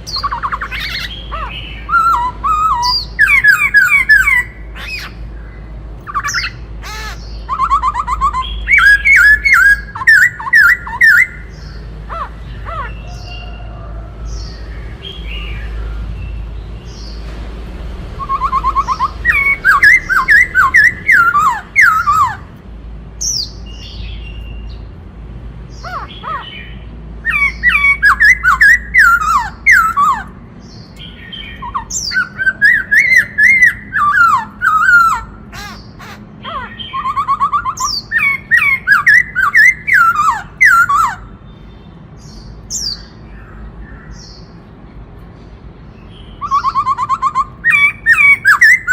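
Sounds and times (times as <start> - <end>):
bird song with whistled notes: 0.0 - 17.3, 18.1 - 22.5, 23.2 - 24.9, 25.7 - 44.7, 45.4 - 48.9
soft bird calls: 0.0 - 17.4, 18.0 - 22.6, 23.2 - 48.9.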